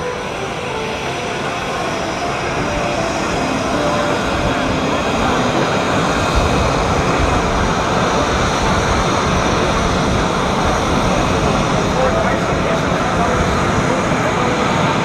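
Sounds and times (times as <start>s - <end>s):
jet engine running: 0.0s - 15.0s.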